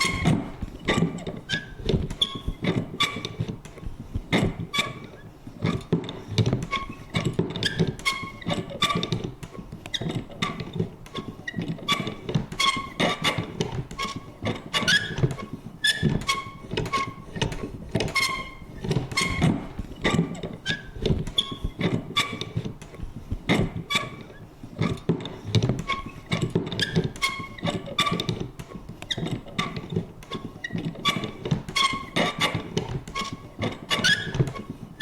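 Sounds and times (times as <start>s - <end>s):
mechanism squeaking: 0.0s - 3.8s, 4.4s - 22.9s, 23.5s - 35.0s
paper punch clicking and knocking: 0.0s - 35.0s.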